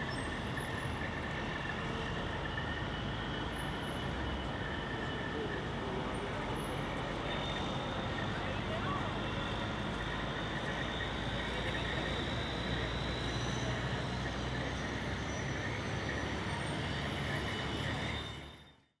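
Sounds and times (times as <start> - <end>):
traffic engine rumble: 0.0 - 18.8.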